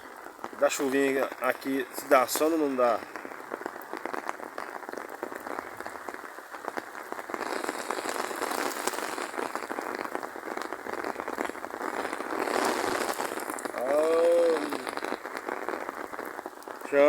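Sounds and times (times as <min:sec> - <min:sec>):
rain on hard surfaces: 0:00.0 - 0:17.0.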